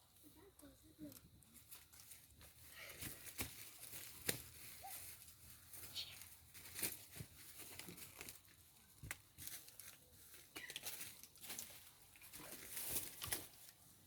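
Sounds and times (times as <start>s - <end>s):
rustling and crackling: 0.4s - 14.0s.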